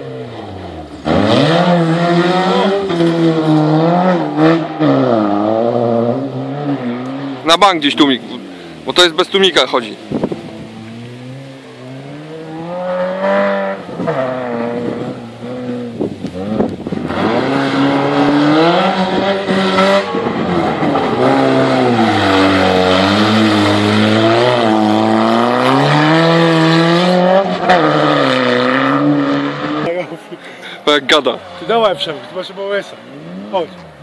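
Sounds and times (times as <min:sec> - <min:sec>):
rally car engine revving: 0:00.0 - 0:30.3, 0:30.9 - 0:34.0.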